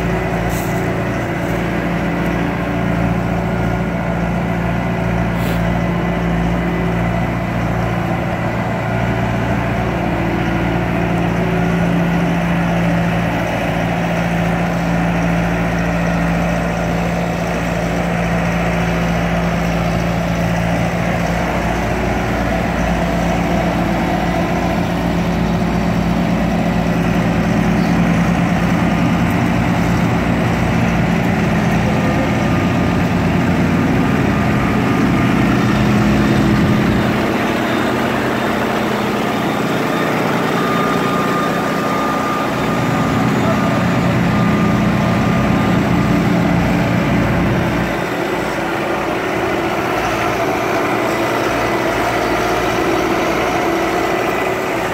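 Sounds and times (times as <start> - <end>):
diesel engine running: 0.0 - 54.9
loader driving over gravel: 0.0 - 54.9.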